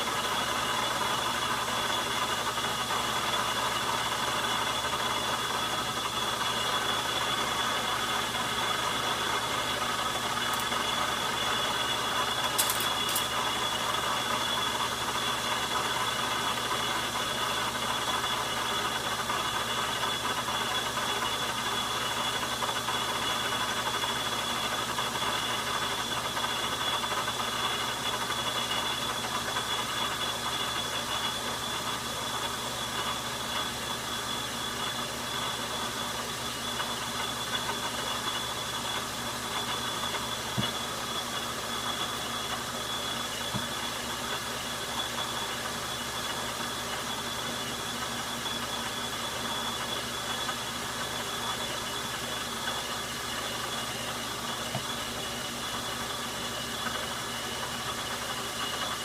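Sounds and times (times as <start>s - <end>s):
metal lathe running: 0.0s - 59.0s.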